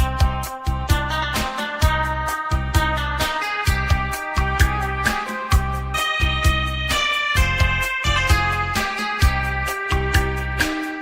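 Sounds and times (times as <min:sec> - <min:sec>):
electronic keyboard music: 0:00.0 - 0:11.0.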